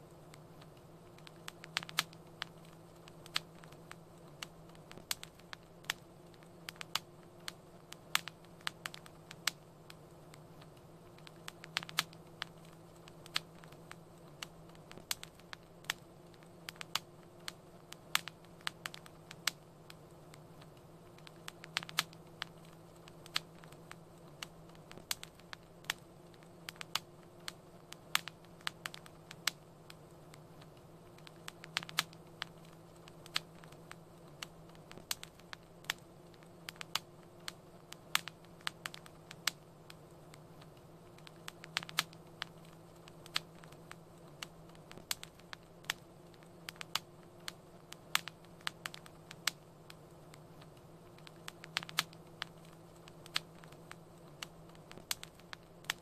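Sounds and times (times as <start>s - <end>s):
faint low hum: 0.0s - 56.0s
wood fire crackling: 0.0s - 56.0s.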